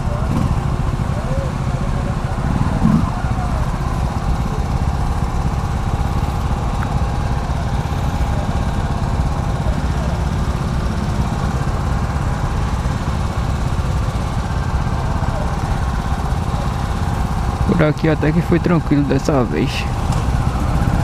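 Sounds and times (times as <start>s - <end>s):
vehicle engine: 0.0s - 21.0s.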